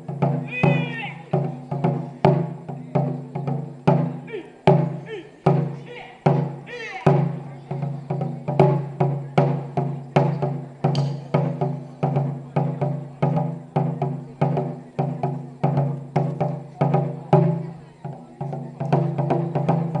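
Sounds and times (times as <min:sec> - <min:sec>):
drums beating a driving rhythm: 0:00.0 - 0:20.0.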